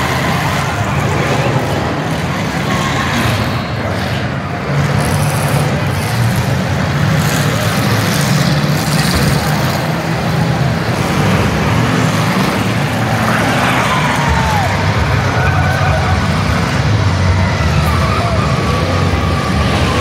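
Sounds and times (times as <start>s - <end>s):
car engines droning: 0.0s - 20.0s.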